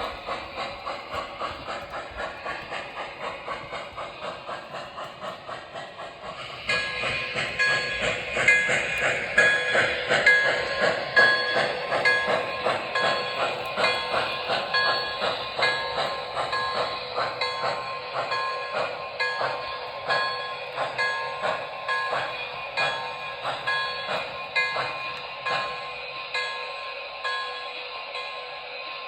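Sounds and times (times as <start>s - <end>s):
locomotive chuffing: 0.0s - 29.0s.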